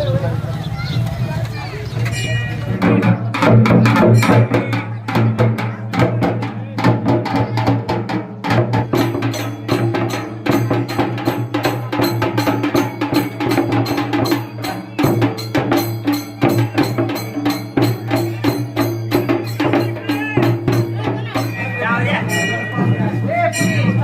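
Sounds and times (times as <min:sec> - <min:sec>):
fast drum and wood strikes: 0:02.7 - 0:24.0.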